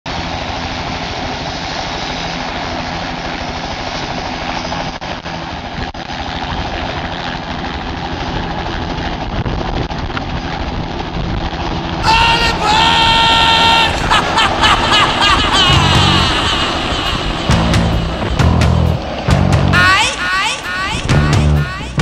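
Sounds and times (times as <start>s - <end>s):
helicopter engine and rotor: 0.1s - 22.0s.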